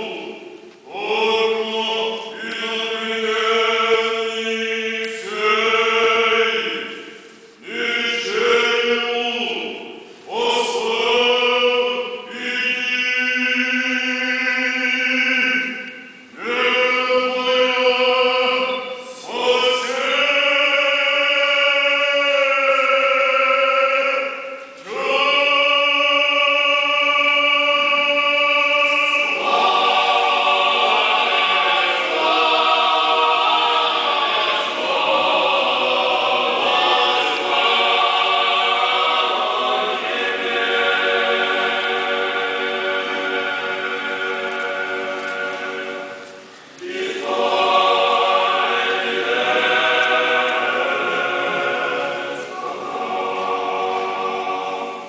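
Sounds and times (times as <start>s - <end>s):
choir singing a chant: 0.0s - 55.0s.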